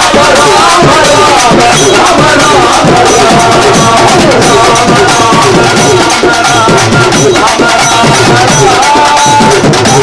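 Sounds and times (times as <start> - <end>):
fast driving drum strokes: 0.0 - 10.0.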